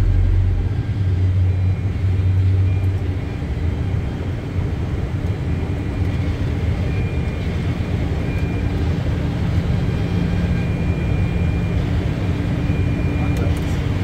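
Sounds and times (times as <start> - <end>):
engine and airflow rumble: 0.0 - 14.0.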